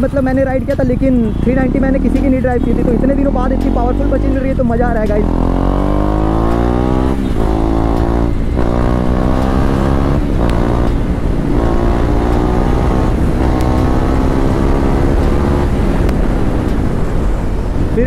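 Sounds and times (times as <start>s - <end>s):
motorcycle engine accelerating: 1.5s - 17.8s.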